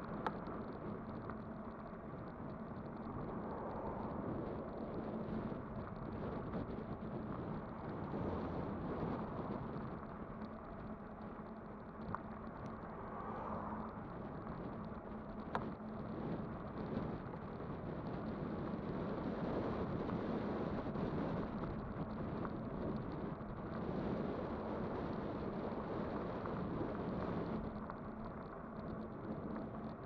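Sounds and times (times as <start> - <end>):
faint steady hum: 0.0 - 30.0
tyre and wind noise: 0.0 - 30.0.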